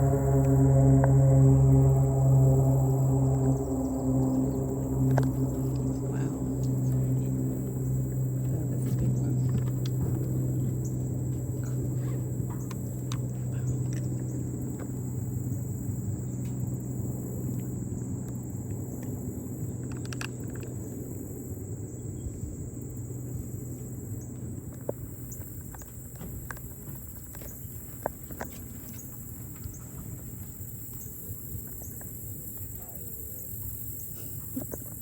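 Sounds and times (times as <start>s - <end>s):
low hum: 0.0s - 30.6s
insects chirring: 0.0s - 35.0s.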